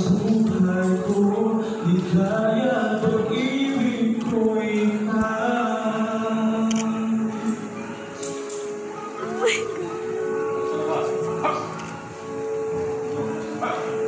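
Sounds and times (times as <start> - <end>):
chant-like singing: 0.0 - 14.0.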